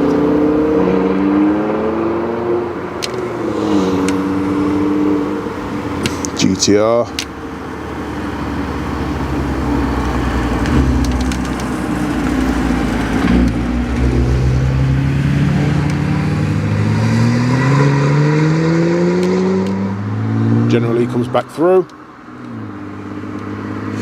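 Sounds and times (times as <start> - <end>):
car engine accelerating: 0.0 - 21.7.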